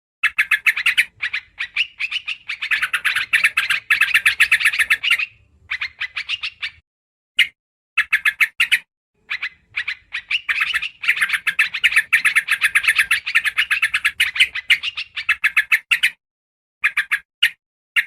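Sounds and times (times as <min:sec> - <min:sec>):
bird chattering bright notes: 0:00.2 - 0:06.8, 0:07.4 - 0:16.2.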